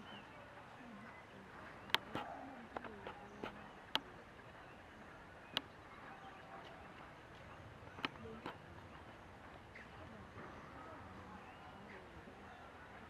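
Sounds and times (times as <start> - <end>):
distant voices: 0.0 - 13.0
faint background murmur: 0.0 - 13.0.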